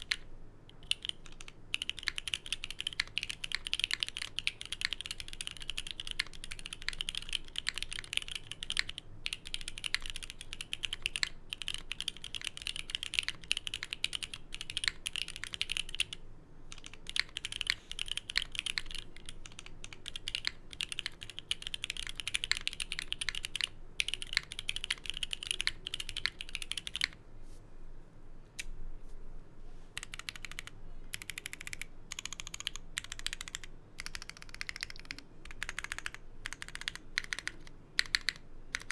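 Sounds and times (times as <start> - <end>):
mechanical keyboard typing: 0.0 - 27.2, 30.0 - 38.9.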